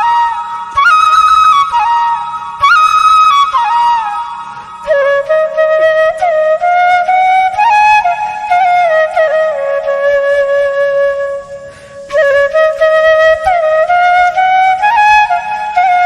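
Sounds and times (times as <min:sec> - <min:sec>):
solo flute melody: 0:00.0 - 0:16.0.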